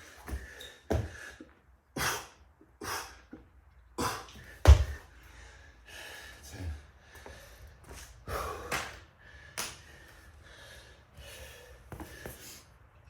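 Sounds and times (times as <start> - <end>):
man breathing hard and gasping: 0.0 - 3.4, 4.0 - 12.9.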